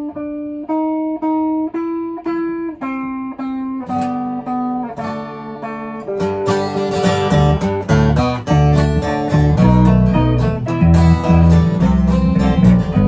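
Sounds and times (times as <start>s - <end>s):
plucked guitar notes: 0.0s - 13.0s.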